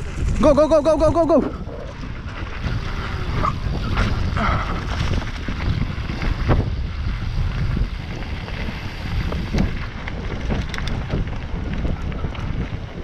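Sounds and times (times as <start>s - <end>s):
bike tyres rolling on dirt: 0.0s - 13.0s
wind buffeting microphone: 0.0s - 13.0s
bike knocks and rattles: 2.0s - 13.0s.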